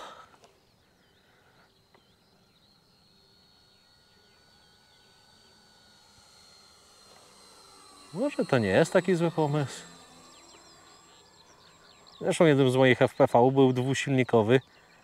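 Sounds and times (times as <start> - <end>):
distant model plane motor whine: 0.0 - 15.0.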